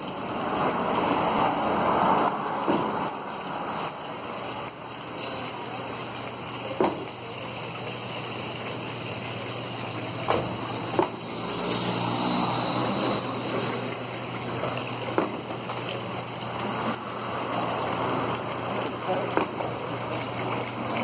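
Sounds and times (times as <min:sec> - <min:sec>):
water trickling and splashing: 0:00.0 - 0:21.0.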